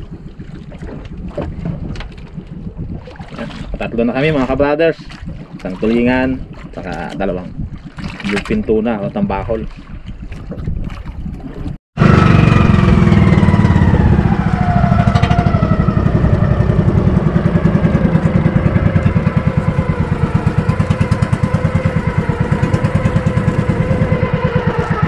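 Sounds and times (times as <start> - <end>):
boat engine chugging: 0.0 - 25.0.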